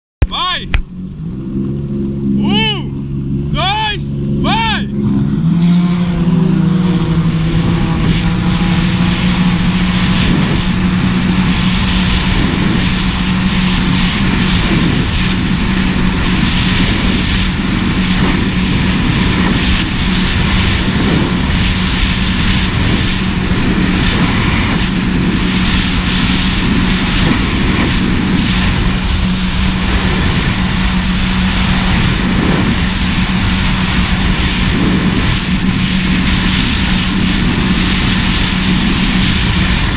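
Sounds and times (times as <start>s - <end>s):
jet ski engine drone: 0.2s - 39.9s
wind rushing over microphone: 0.2s - 39.9s.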